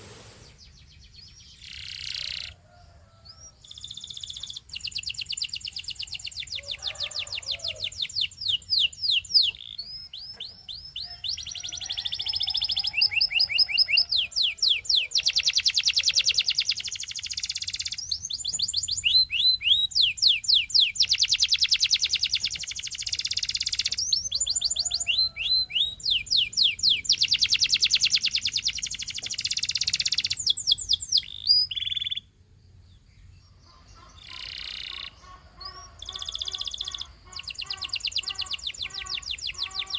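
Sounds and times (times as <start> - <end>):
canary singing trills: 0.4 - 39.9.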